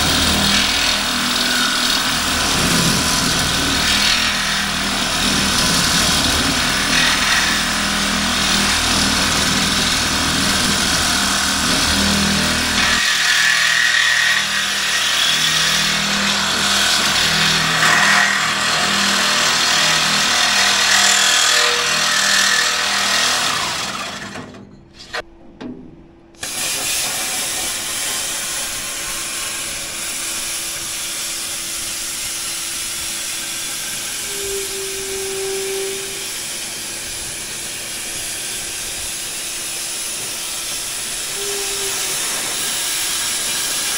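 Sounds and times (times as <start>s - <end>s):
power tool grinding metal: 0.0s - 24.5s, 26.4s - 43.9s.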